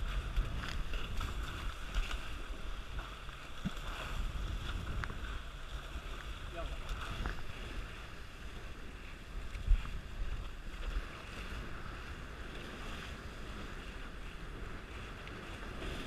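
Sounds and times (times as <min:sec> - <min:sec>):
water rushing along a hull: 0:00.0 - 0:16.0
wind buffeting microphone: 0:00.0 - 0:16.0.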